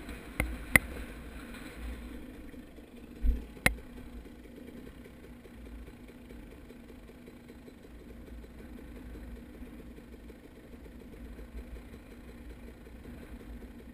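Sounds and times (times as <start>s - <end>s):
dirt bike engine running: 0.0s - 13.9s.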